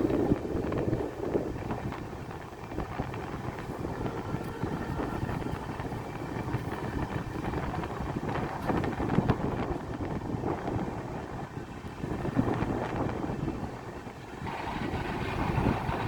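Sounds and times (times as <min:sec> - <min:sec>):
train wheels rushing on rails: 0:00.0 - 0:16.0
wind buffeting microphone: 0:00.0 - 0:16.0.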